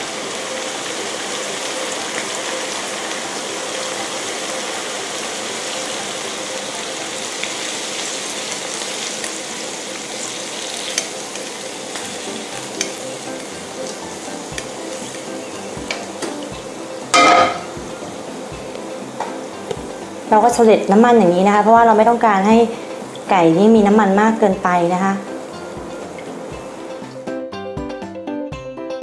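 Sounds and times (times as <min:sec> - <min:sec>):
hot oil sizzling: 0:00.0 - 0:27.2.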